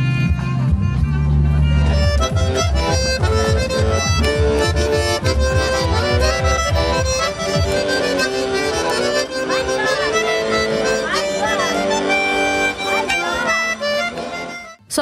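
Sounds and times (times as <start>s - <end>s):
thumping bass beat: 0.0s - 14.8s
accordion chords: 0.0s - 15.0s.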